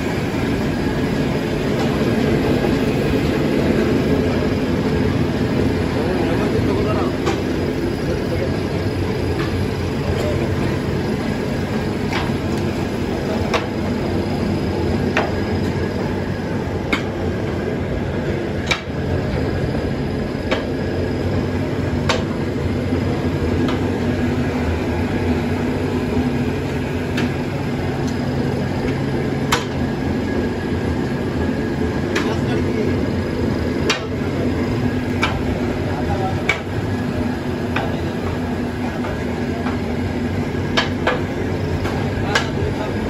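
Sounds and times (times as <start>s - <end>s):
constant low hum: 0.0s - 43.0s
electric motor and conveyor running: 0.0s - 43.0s.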